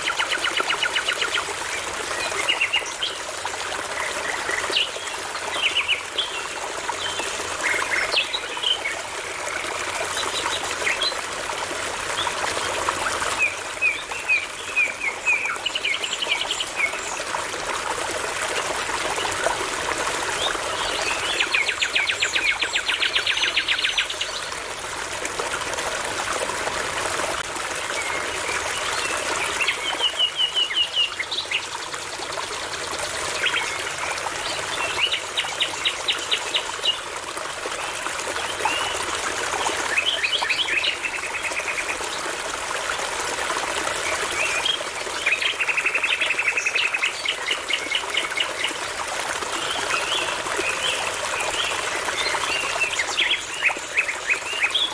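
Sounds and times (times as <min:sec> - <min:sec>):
brook trickling: 0:00.0 - 0:54.9.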